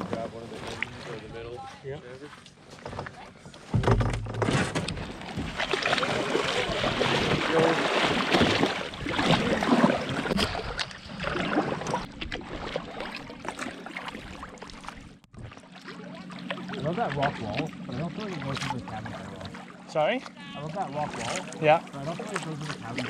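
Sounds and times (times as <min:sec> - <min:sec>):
water splashing around a canoe: 0:00.0 - 0:23.0.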